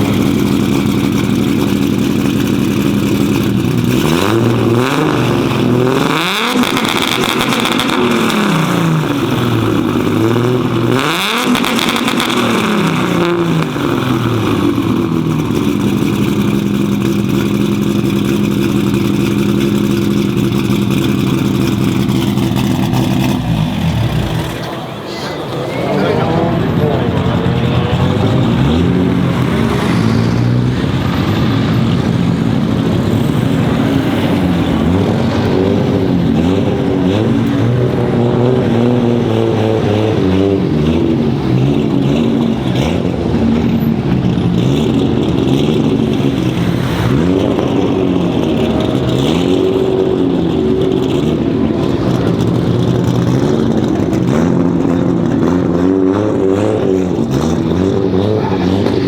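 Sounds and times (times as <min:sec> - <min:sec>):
loud uneven car engine revving: 0:00.0 - 0:59.0.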